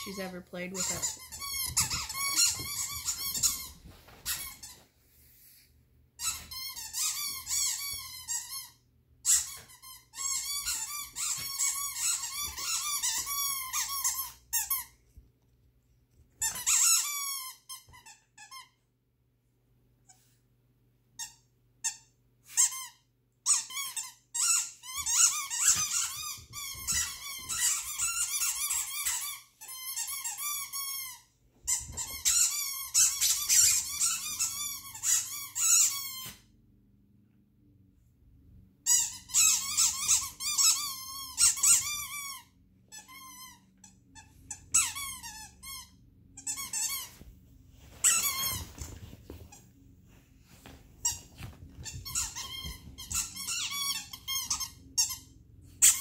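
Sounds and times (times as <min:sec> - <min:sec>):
squeaky dog toy squeaking: 0:00.0 - 0:04.8, 0:06.2 - 0:15.0, 0:16.4 - 0:18.8, 0:21.2 - 0:36.5, 0:38.8 - 0:47.2, 0:47.9 - 0:49.6, 0:51.0 - 0:56.0.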